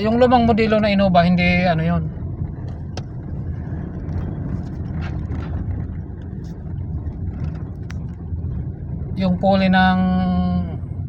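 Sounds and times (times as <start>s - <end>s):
engine running low rumble: 0.0s - 11.0s.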